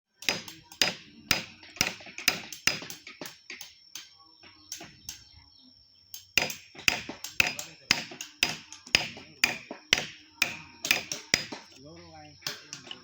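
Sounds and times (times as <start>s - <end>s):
sharp knocks of wood carving: 0.2s - 5.2s, 6.2s - 11.8s, 12.4s - 13.0s.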